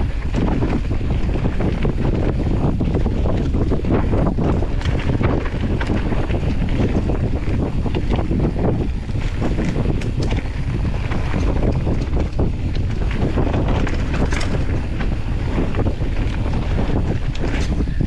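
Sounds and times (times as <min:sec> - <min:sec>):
bike rattling clicks and knocks: 0:00.0 - 0:18.0
mountain bike rumbling on dirt: 0:00.0 - 0:18.0
wind buffeting microphone: 0:00.0 - 0:18.0.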